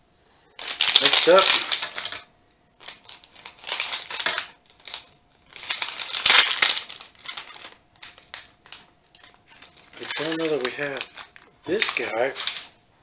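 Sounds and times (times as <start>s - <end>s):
plastic packet crinkling: 0.6s - 12.8s.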